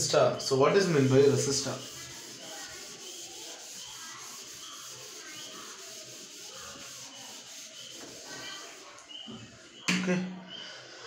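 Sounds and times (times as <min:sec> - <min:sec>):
duster wiping whiteboard: 0:00.0 - 0:09.0.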